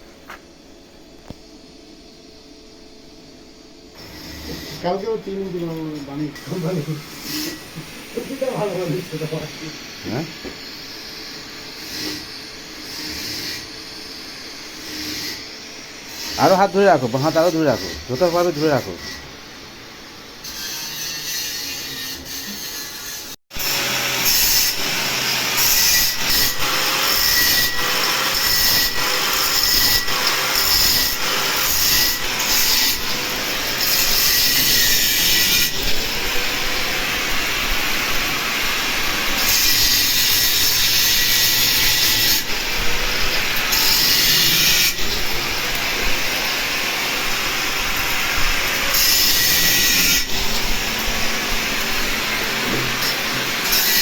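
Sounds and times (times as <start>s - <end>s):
electric arc welding hiss: 1.2s - 54.0s.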